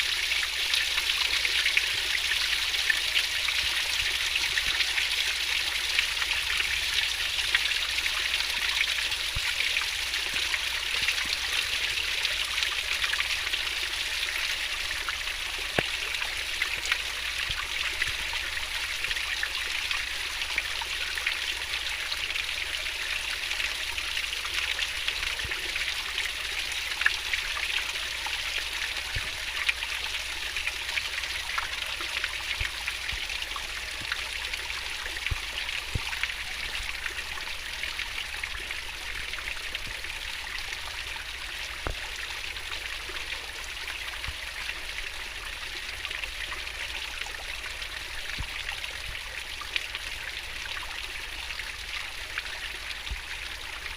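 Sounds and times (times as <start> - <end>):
water stream flowing fast: 0.0 - 53.9.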